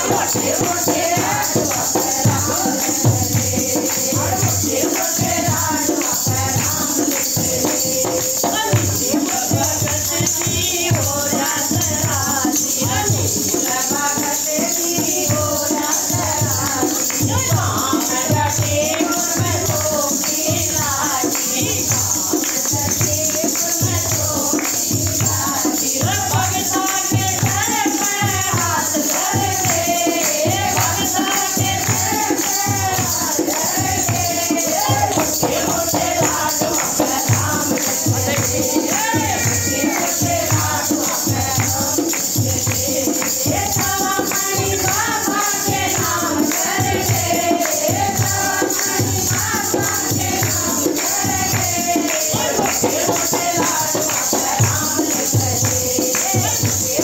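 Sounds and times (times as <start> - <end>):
jingling percussion: 0.0 - 57.0
women singing folk song: 0.0 - 57.0.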